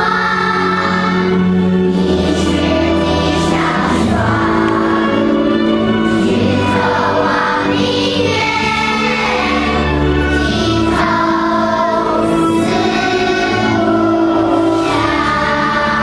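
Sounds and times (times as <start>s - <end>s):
children's choir singing: 0.0s - 16.0s
sustained low accompaniment: 0.0s - 16.0s.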